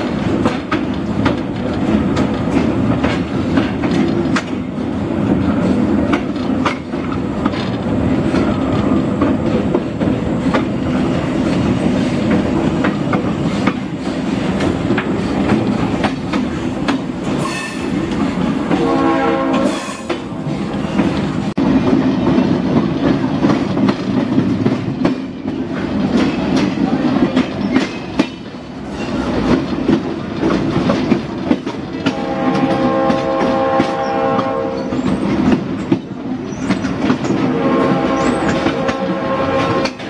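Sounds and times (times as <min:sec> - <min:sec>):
train wheels rumbling: 0:00.0 - 0:40.0
wheels clicking over rail joints: 0:00.0 - 0:40.0.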